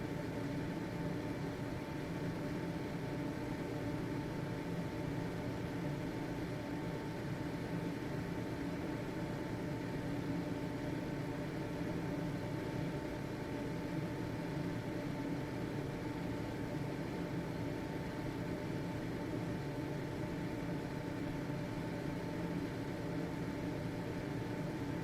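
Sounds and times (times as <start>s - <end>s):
ventilation fan running: 0.0s - 25.0s.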